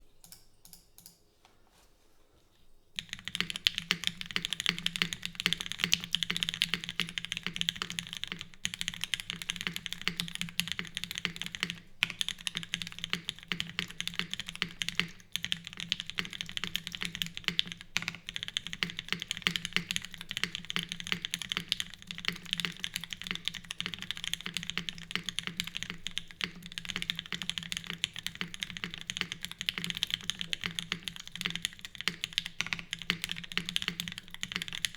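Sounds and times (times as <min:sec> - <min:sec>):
fast mechanical keyboard typing: 0:03.0 - 0:34.9.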